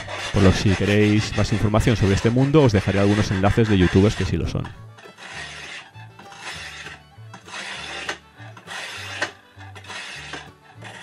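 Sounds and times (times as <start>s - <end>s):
sharpening stone scraping knife: 0.0s - 11.0s
soft background music: 0.0s - 11.0s.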